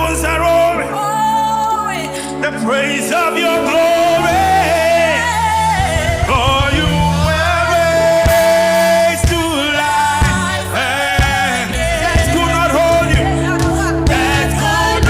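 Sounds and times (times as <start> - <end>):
band accompaniment: 2.2 - 15.0.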